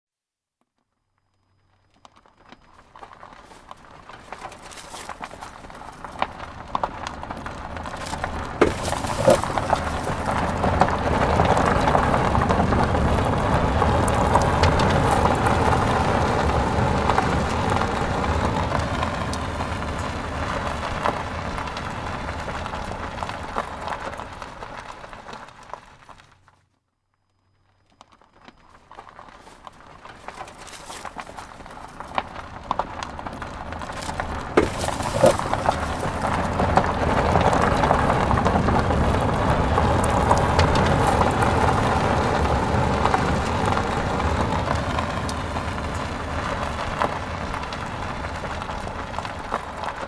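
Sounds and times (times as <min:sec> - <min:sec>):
car tyres crunching on gravel: 0:01.5 - 0:26.7, 0:27.5 - 0:50.0.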